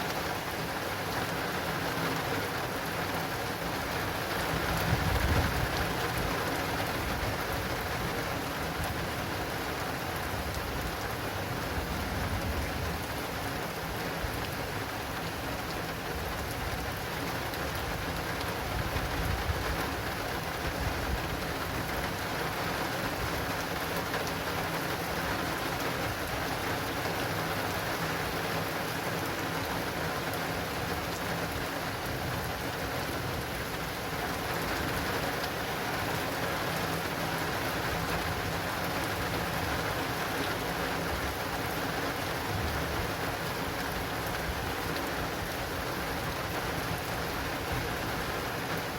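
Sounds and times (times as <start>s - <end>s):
heavy rain on an awning: 0.0s - 48.9s.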